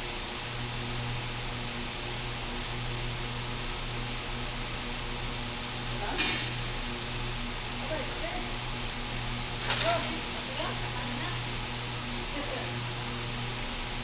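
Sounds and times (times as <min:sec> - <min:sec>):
workshop hiss and hum: 0:00.0 - 0:14.0.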